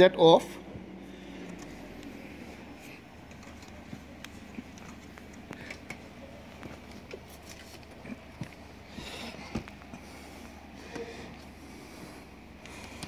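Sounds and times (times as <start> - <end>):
hands rustling on mechanism: 1.4 - 13.0.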